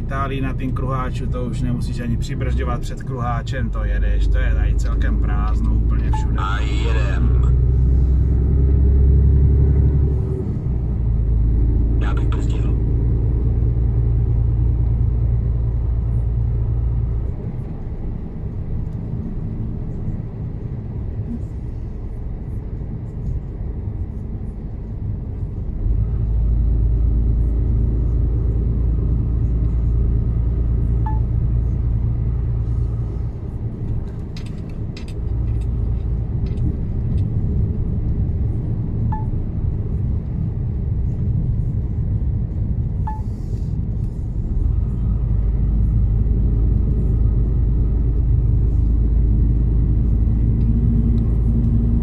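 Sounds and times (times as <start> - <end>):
truck engine and road rumble: 0.0 - 52.0.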